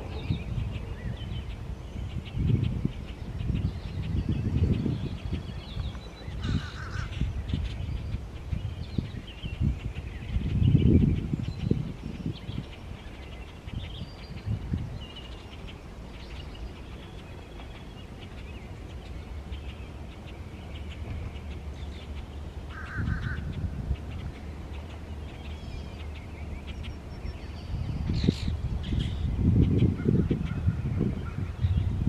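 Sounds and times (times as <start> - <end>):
birds chirping and calling: 0.0 - 32.0.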